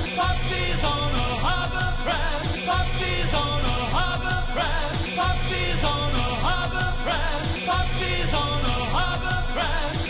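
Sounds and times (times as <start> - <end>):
pop music with singing: 0.0 - 10.0.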